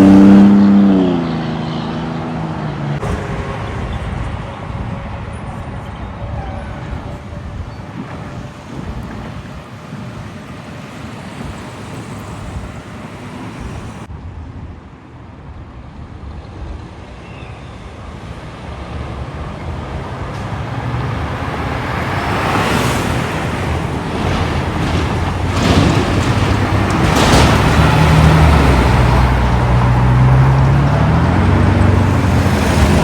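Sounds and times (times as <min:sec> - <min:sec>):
heavy truck engine approaching: 0:00.0 - 0:14.2, 0:18.2 - 0:33.0
road traffic: 0:00.0 - 0:33.0.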